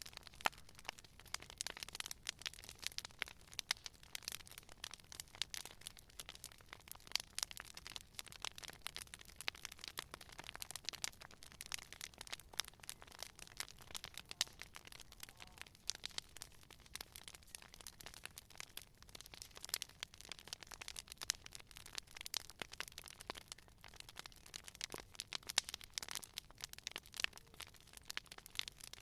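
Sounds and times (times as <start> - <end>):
campfire crackling: 0.0 - 29.0
sharp fire pops: 0.0 - 29.0.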